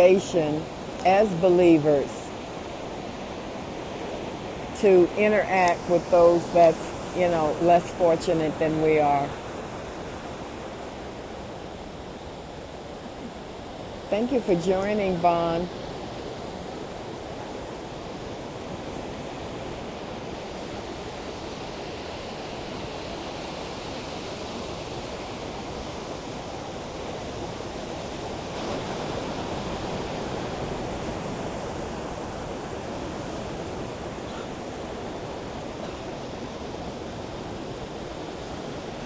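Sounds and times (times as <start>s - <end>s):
ocean waves breaking: 0.0s - 39.0s.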